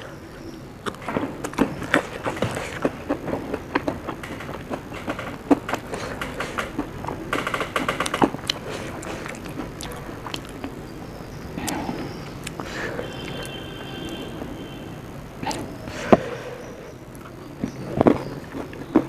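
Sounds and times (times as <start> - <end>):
person chewing crunchy food: 0.0 - 7.3, 8.0 - 14.6, 15.4 - 19.0.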